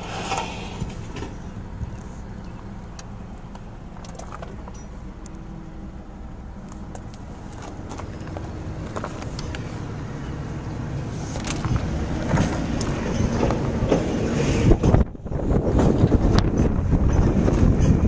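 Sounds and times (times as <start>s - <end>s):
car engine idling: 0.0s - 17.1s.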